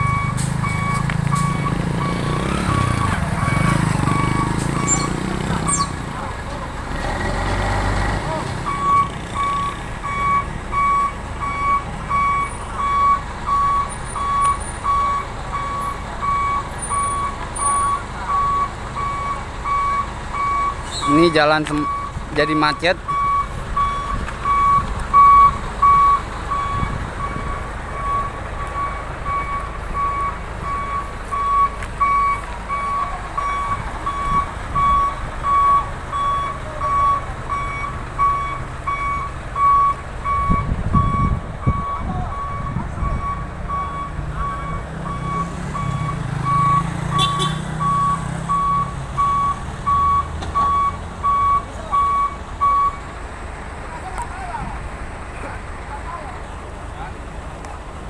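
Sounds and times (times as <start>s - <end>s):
truck reversing alarm beeping: 0.0s - 6.1s, 6.9s - 53.3s
diesel truck engine revving: 0.0s - 58.0s.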